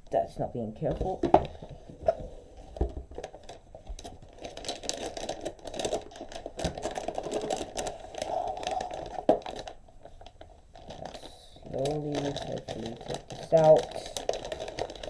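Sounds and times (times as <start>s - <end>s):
packaging crinkling and rustling: 1.0s - 15.0s.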